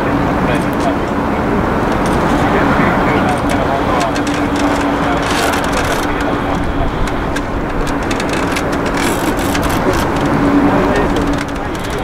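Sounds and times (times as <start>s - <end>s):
jet engines at low thrust: 0.0s - 12.0s.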